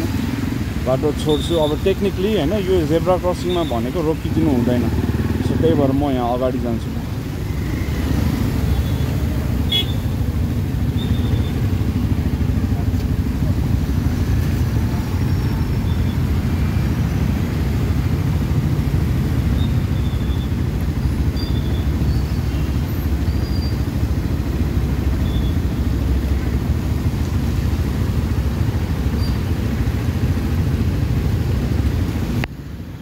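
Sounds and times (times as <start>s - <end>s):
motorcycle engine and road noise: 0.0s - 33.0s.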